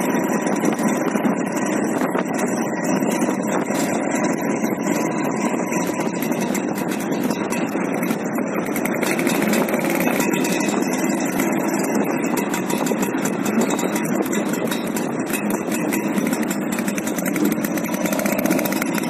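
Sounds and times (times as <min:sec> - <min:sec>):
scooter engines running: 0:00.0 - 0:19.0.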